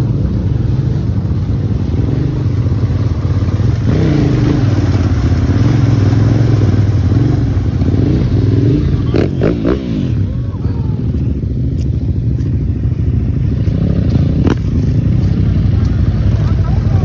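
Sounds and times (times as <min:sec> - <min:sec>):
motorcycle engine revving: 0:00.0 - 0:17.0
water splashing around wheels: 0:00.0 - 0:17.0.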